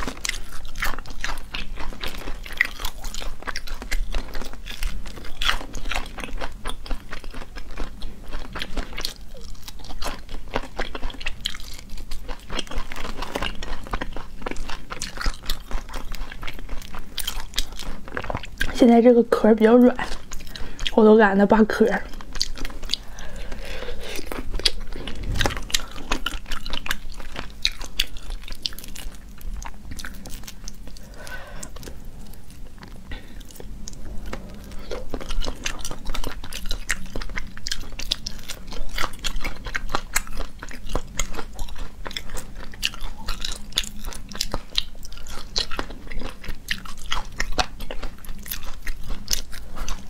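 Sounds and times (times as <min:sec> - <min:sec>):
chewing crunchy shells: 0:00.0 - 0:18.8, 0:19.7 - 0:21.0, 0:21.8 - 0:50.0.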